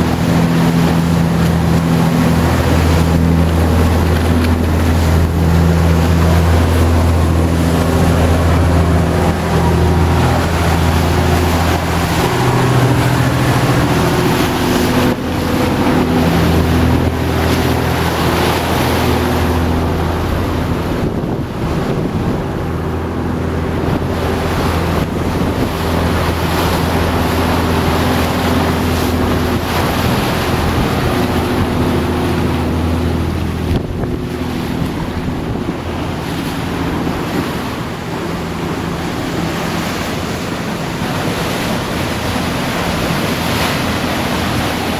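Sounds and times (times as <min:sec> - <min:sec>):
boat engine droning: 0:00.0 - 0:44.9
rushing water and waves: 0:00.0 - 0:44.9
wind buffeting microphone: 0:00.0 - 0:44.9.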